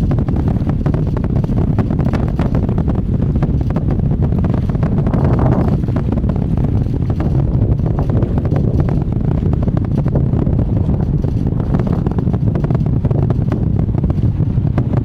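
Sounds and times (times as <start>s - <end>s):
distant rocket rumble with crackling: 0.0s - 15.0s
wind on microphone: 0.0s - 15.0s.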